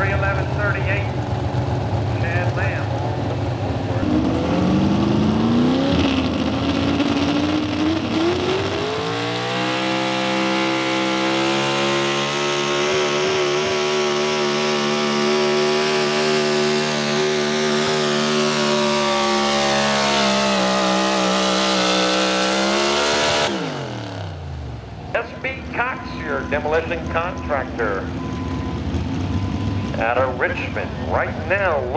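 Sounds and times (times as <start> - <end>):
truck engine at full throttle: 0.0 - 31.9.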